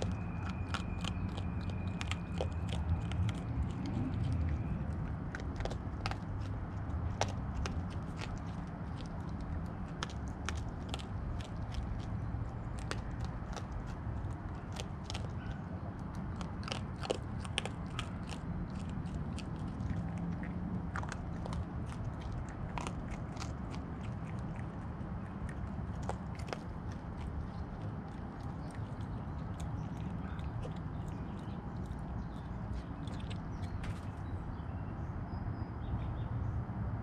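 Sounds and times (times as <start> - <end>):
raccoon crunching kibble: 0.0 - 34.4
steady low rumble: 0.0 - 36.6.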